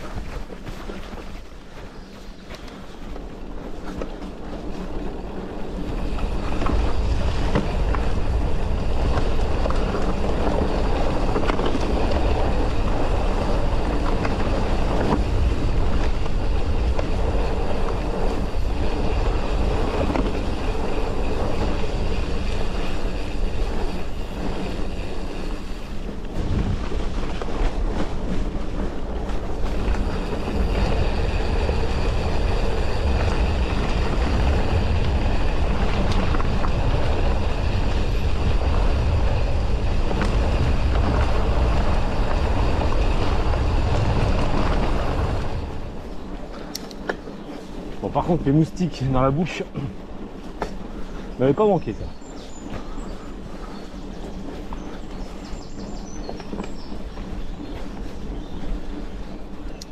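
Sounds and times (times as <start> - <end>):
bike tyres on dirt trail: 0.0 - 59.9
wind on camera microphone: 0.0 - 59.9.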